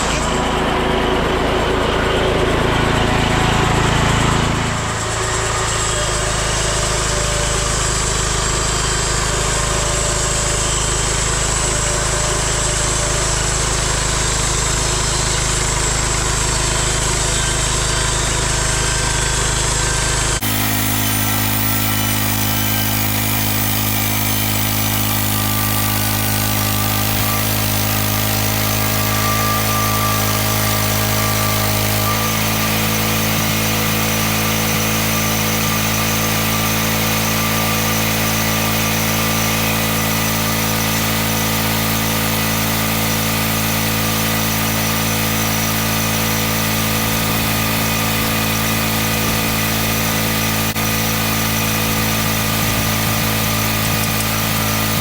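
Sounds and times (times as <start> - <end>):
sawmill gas engine running: 0.0 - 55.0.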